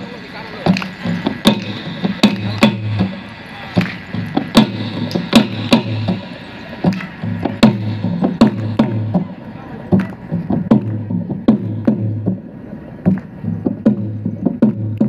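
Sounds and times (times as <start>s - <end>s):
wooden percussion strikes: 0.0s - 15.0s.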